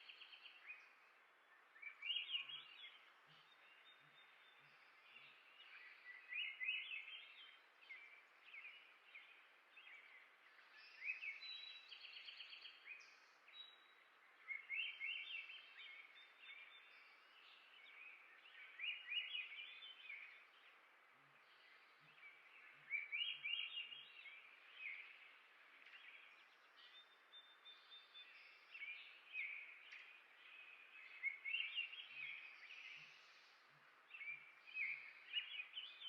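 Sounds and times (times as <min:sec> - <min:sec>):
faint background hiss: 0:00.0 - 0:36.0
songbirds chirping: 0:00.0 - 0:36.0.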